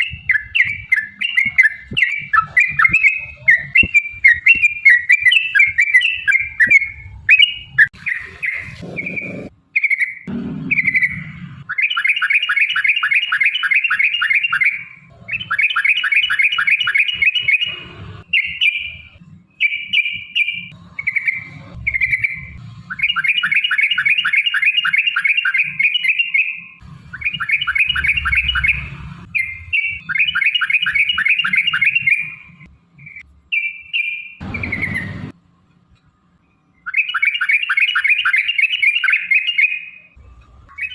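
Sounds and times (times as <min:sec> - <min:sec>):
bird singing fast trills: 0:00.0 - 0:35.3, 0:36.4 - 0:40.9.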